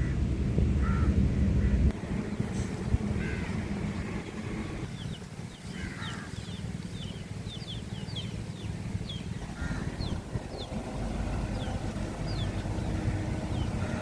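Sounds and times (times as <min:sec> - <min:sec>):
harsh caw-like bird calls: 0:00.0 - 0:00.2, 0:00.8 - 0:14.0
low wind rumble: 0:00.0 - 0:14.0.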